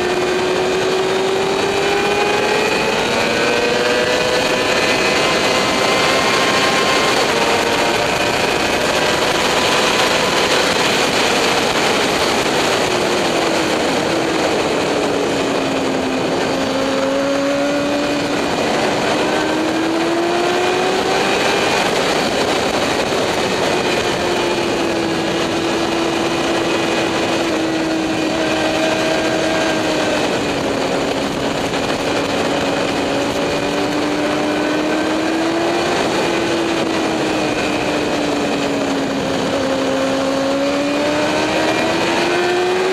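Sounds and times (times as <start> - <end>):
loud rushing noise: 0.0 - 42.9
motorcycle engine at speed: 0.0 - 42.9.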